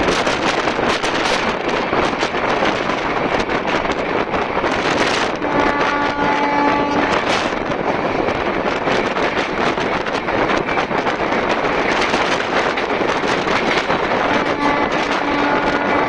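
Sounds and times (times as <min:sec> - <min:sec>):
train running noise and wind rush: 0:00.0 - 0:16.0
wheels clicking on track: 0:00.0 - 0:16.0.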